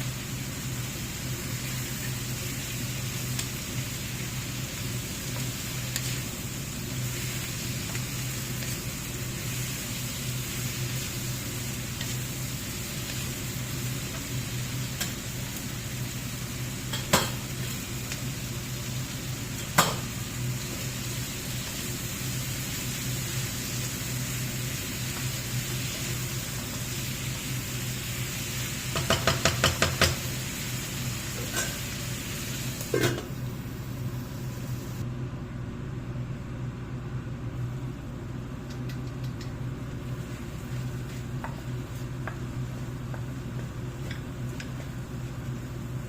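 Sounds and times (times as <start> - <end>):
food sizzling in a pan: 0.0 - 35.0, 38.8 - 46.0.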